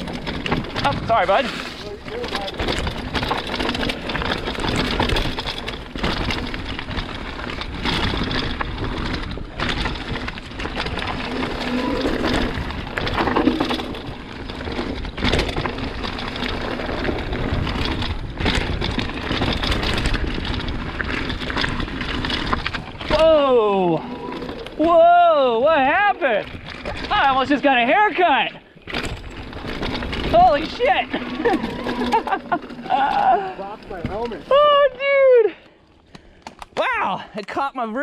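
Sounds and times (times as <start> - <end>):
bike tyres rushing on dirt: 0.0 - 36.4
bike rattling over bumps: 0.0 - 36.8.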